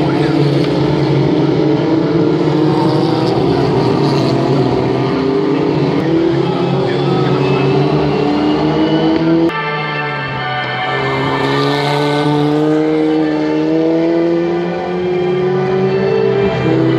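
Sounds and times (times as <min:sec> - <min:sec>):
racing car engines passing: 0:00.0 - 0:16.9.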